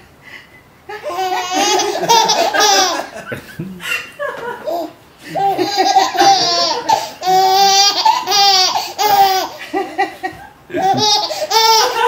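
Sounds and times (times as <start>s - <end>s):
baby laughing: 0.9s - 12.0s.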